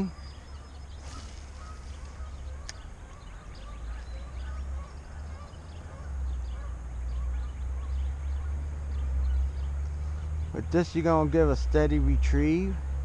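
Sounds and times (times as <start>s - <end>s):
birds calling faintly: 0.0s - 13.0s
steady low rumble: 0.0s - 13.0s.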